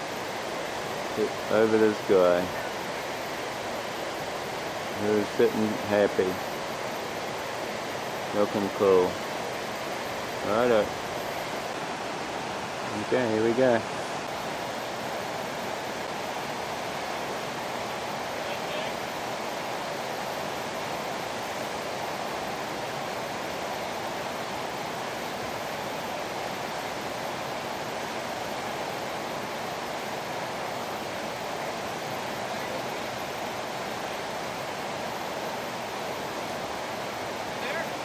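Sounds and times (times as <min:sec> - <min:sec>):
river water rushing over stones: 0:00.0 - 0:38.0.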